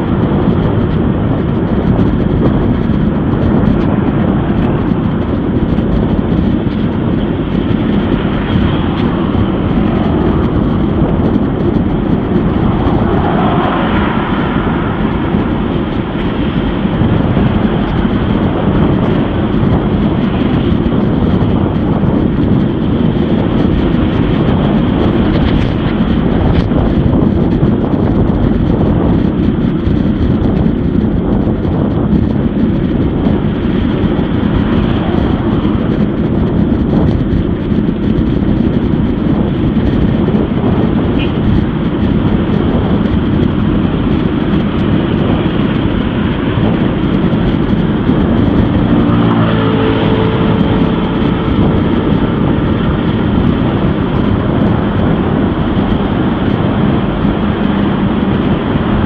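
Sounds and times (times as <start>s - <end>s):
passing traffic: 0.0s - 59.0s
road rumble: 0.0s - 59.0s
wind on microphone: 0.0s - 59.0s.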